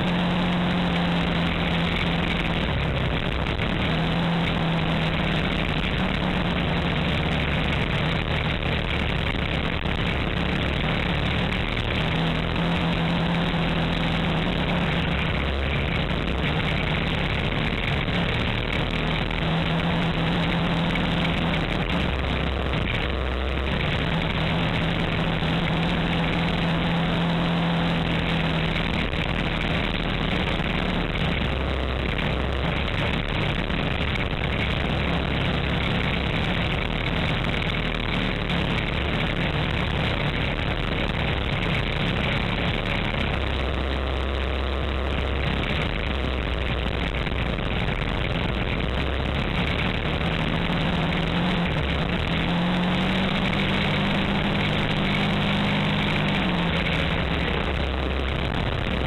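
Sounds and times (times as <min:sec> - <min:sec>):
utility vehicle engine running: 0:00.0 - 0:59.0
wind and tyre noise: 0:00.0 - 0:59.0.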